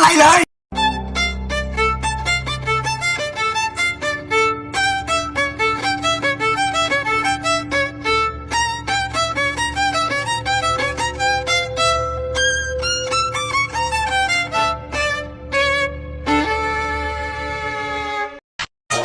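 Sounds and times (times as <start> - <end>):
sustained low drone: 0.7 - 18.2
fast violin notes: 0.7 - 19.0.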